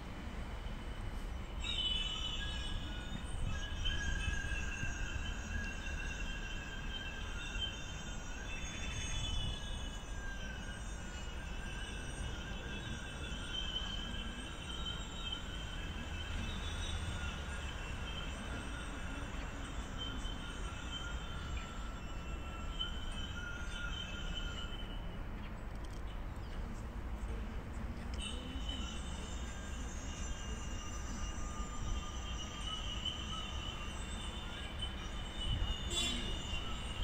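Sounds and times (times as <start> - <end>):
high wavering whining tones: 0.6 - 25.4, 28.0 - 37.0.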